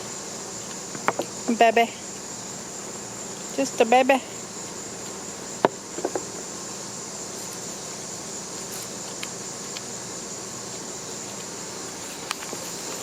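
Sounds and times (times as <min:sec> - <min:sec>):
insects singing: 0:00.0 - 0:13.0.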